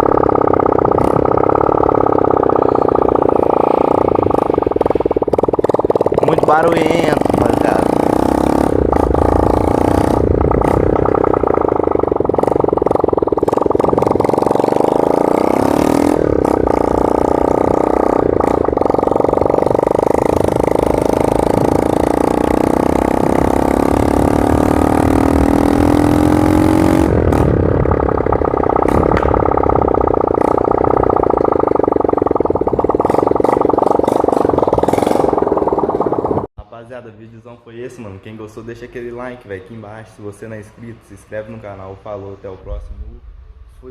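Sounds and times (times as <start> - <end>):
loud motorcycle engine revving: 0.0 - 36.5.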